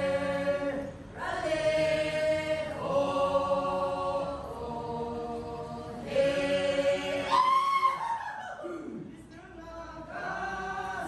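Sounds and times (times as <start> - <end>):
mixed choir singing: 0.0 - 8.1, 10.1 - 11.0.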